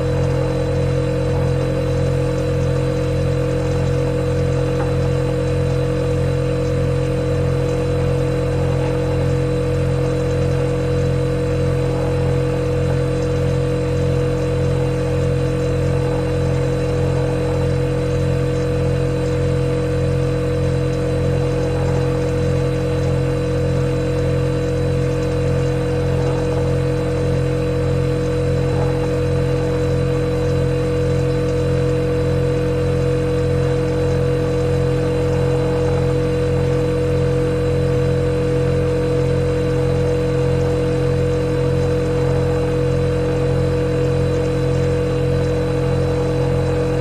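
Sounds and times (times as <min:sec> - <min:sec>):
refrigerator compressor humming: 0:00.0 - 0:47.0.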